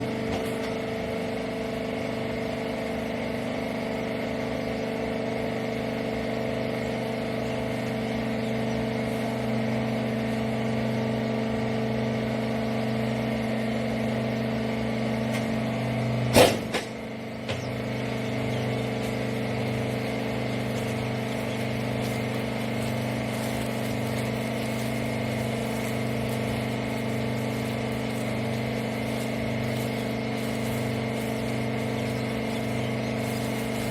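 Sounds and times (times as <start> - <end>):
electric motor and pump humming: 0.0 - 33.9.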